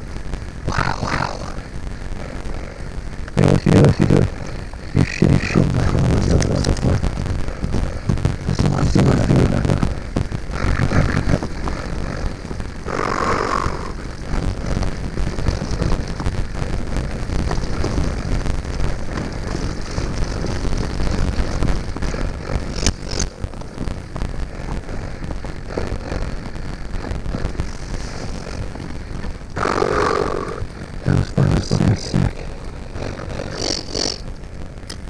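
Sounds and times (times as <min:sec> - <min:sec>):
bike rumbling and rattling on trail: 0:00.0 - 0:35.0
wind buffeting microphone: 0:00.0 - 0:35.0.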